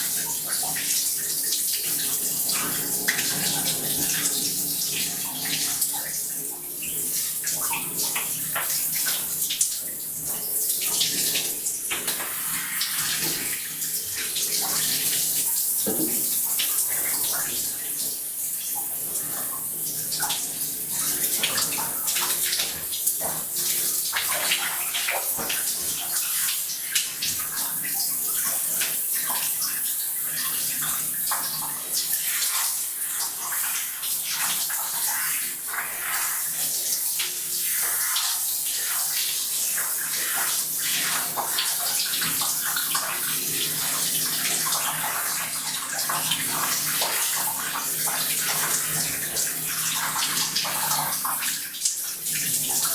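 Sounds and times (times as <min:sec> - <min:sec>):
water running into bathtub: 0:00.0 - 0:52.9.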